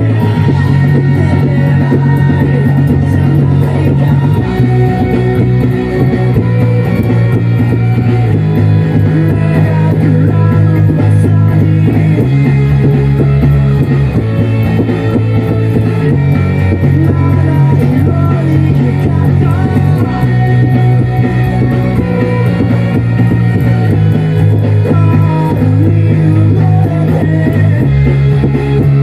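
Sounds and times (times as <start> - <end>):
drums: 0.0 - 29.0
electric bass long low notes: 0.0 - 29.0
electric guitar: 0.0 - 29.0
rock music: 0.0 - 29.0.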